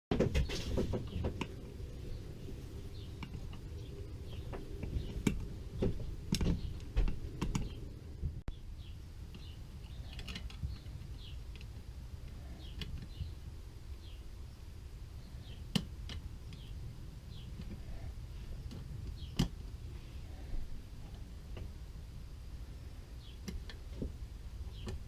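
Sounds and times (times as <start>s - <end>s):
steady low hum: 0.1s - 25.0s.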